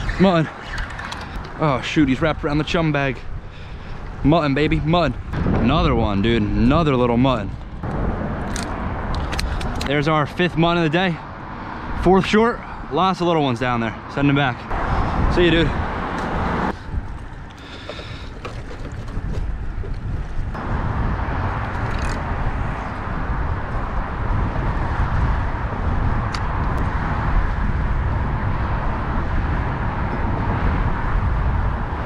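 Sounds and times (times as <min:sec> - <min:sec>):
wind on microphone: 0:00.0 - 0:09.9, 0:14.6 - 0:32.0.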